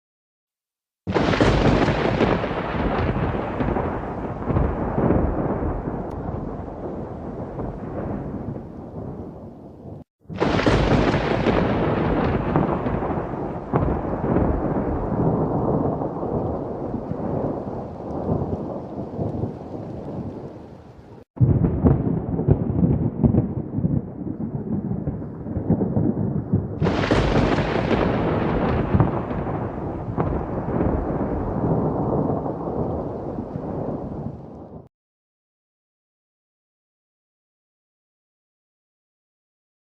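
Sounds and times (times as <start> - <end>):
sharp thunderclap: 1.1 - 20.6, 21.4 - 34.9
rolling thunder rumbling: 1.1 - 34.9.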